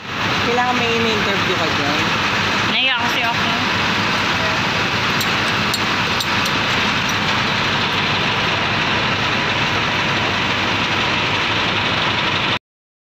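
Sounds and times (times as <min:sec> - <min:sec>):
diesel engine running: 0:00.0 - 0:12.6.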